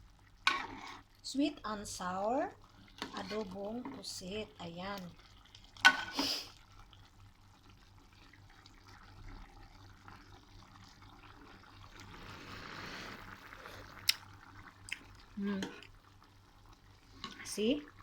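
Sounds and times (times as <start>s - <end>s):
faint cooking liquid: 0.0s - 18.0s.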